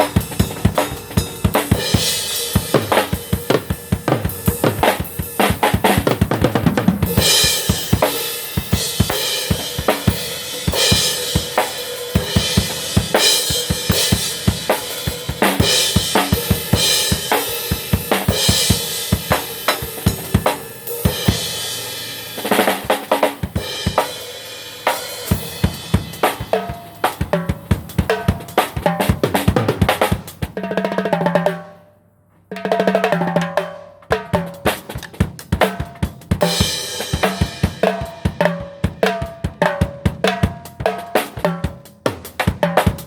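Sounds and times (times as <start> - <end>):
drum kit playing: 0.0 - 31.8, 32.5 - 43.0.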